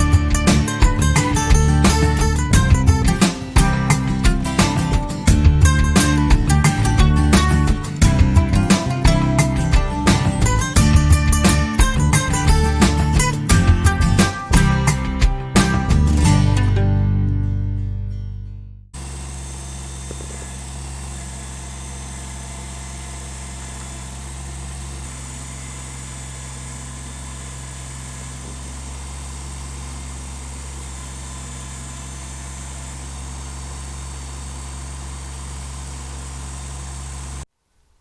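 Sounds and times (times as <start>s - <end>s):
tractor diesel engine idling: 0.0s - 16.8s, 19.0s - 37.5s.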